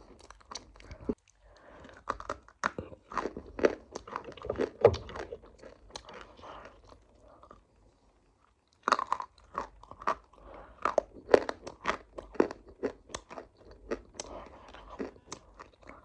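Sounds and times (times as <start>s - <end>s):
chewing crunchy food: 0.0s - 16.0s.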